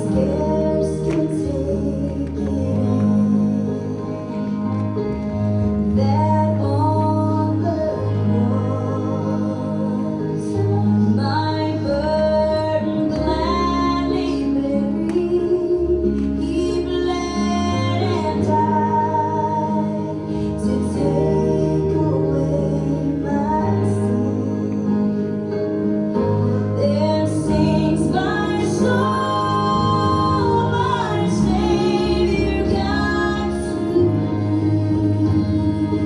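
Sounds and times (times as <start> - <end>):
woman singing a slow melody: 0.0 - 4.8, 5.8 - 25.5, 26.1 - 36.0.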